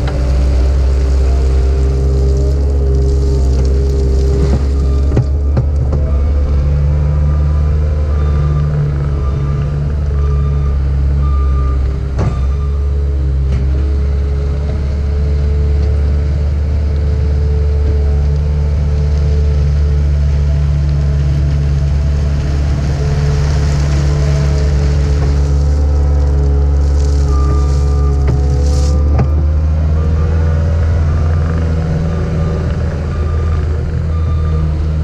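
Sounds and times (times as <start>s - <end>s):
diesel engine running under load: 0.0s - 35.0s.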